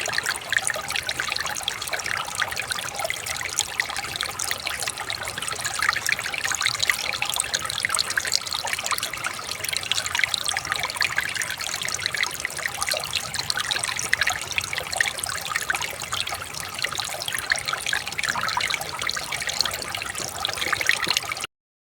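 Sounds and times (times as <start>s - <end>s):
river water trickling and babbling: 0.0s - 21.5s.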